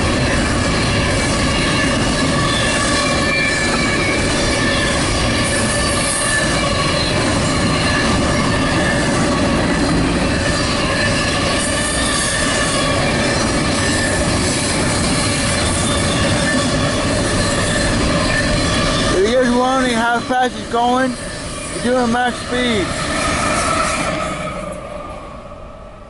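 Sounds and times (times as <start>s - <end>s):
wheels squealing: 0.0s - 25.2s
freight train wheels rumbling: 0.0s - 26.0s.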